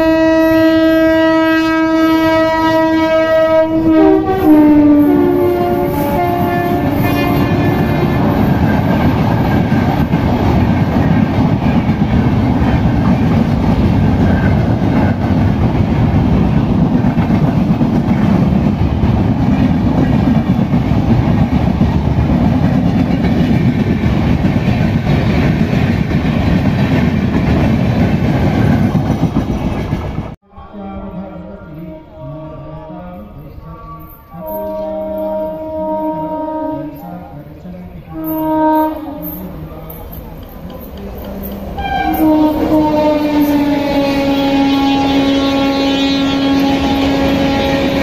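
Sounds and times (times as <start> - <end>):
train wheels rumbling: 0.0 - 30.4, 34.0 - 48.0.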